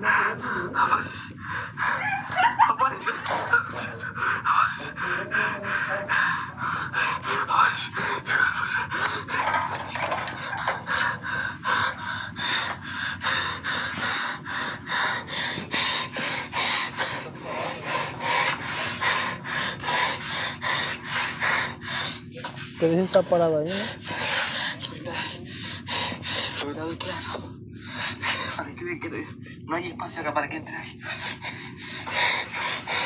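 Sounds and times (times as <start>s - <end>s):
man panting heavily: 0.0s - 2.2s, 2.9s - 29.6s, 30.8s - 33.0s.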